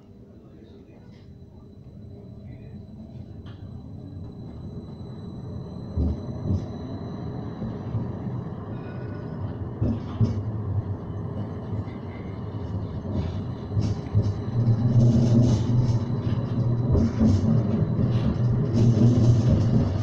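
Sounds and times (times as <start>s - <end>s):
tram wheels rumbling on rail: 0.0s - 20.0s.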